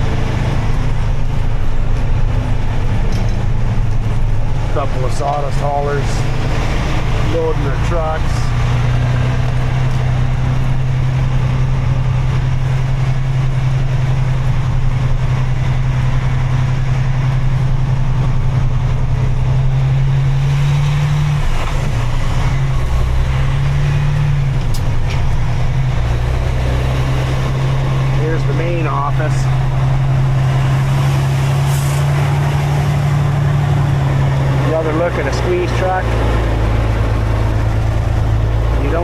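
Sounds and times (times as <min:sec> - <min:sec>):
vehicle engine droning: 0:00.0 - 0:39.0.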